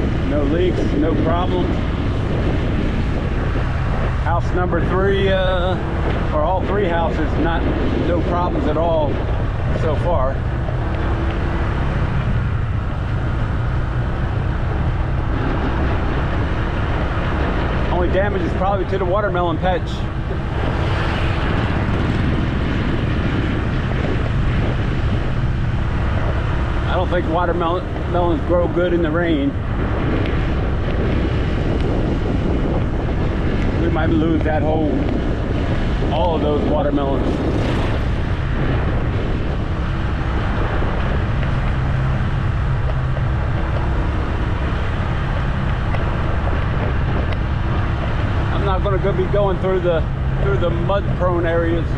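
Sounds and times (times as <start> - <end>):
road noise: 0.0 - 51.9
vehicle engine rumble: 0.0 - 51.9.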